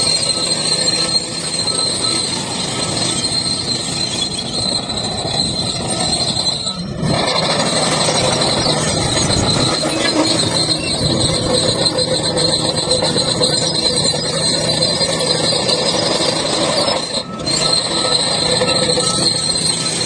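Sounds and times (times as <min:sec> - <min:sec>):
heavy construction machinery: 0:00.0 - 0:20.0
high-pitched metallic squeal: 0:00.0 - 0:20.0.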